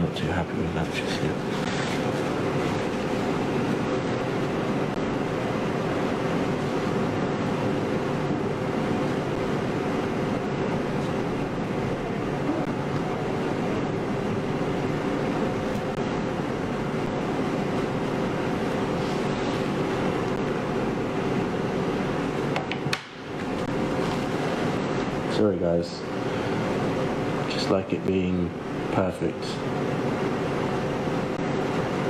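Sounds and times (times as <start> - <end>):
low even hum: 0.0 - 32.0.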